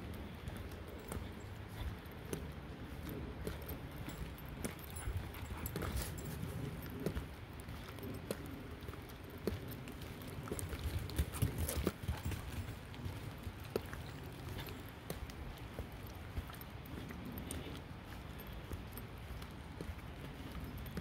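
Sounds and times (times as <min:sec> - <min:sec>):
footsteps on leafy dirt trail: 0:00.0 - 0:21.0.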